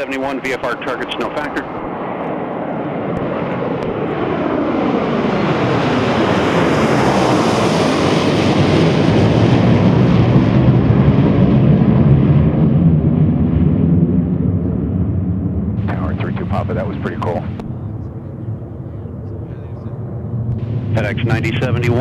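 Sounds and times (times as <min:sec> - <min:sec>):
deep jet rumble: 0:00.0 - 0:22.0
jet passing overhead: 0:00.0 - 0:22.0.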